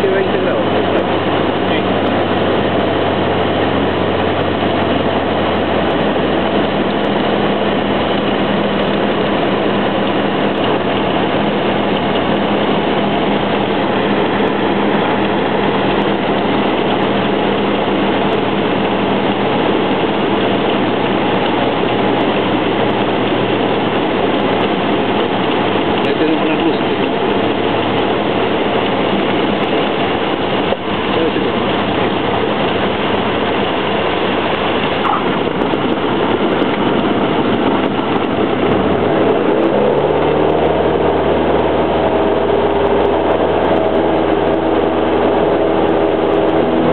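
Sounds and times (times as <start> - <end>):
airflow noise: 0.0 - 46.9
airplane engine and propeller drone: 0.0 - 46.9.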